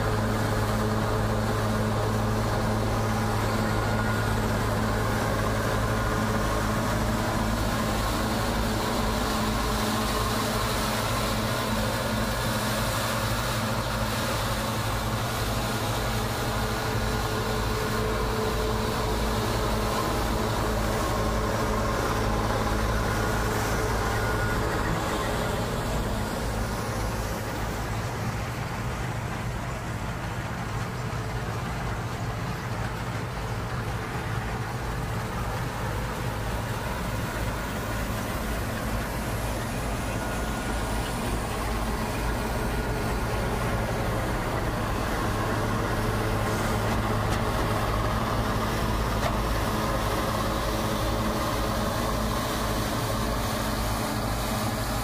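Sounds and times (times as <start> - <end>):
diesel engine hum: 0.0 - 55.0.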